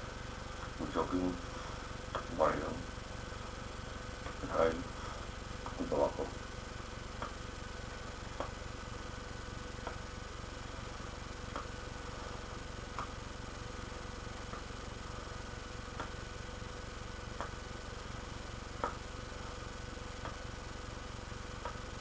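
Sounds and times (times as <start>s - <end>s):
low electrical hum and hiss: 0.0s - 22.0s.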